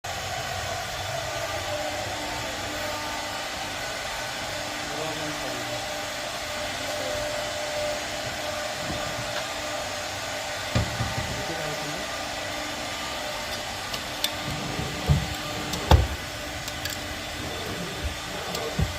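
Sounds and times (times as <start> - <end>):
whirring motor: 0.2 - 18.9.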